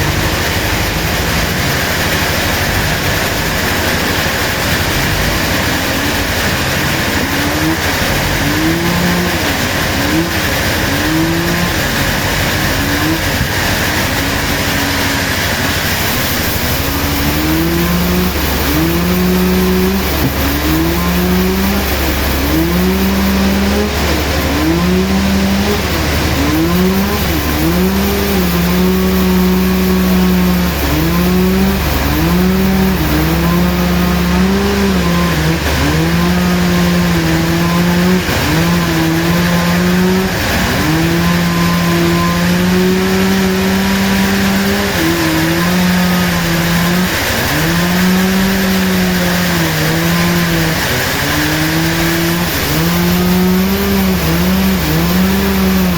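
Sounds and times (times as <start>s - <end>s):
saw cutting hiss: 0.0s - 55.9s
sawmill motor running: 0.0s - 55.9s.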